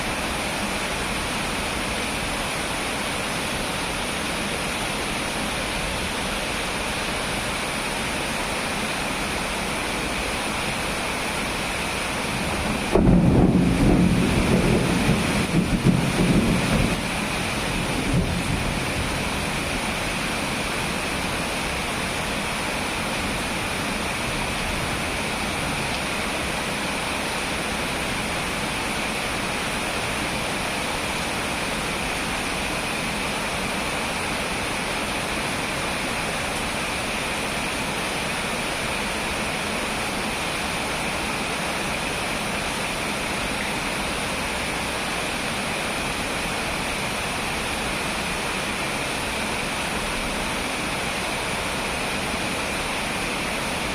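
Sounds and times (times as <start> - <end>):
rain falling steadily: 0.0 - 53.9.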